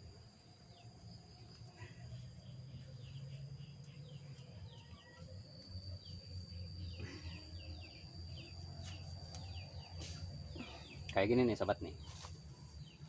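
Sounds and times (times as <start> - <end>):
high-pitched insect drone: 2.2 - 13.0.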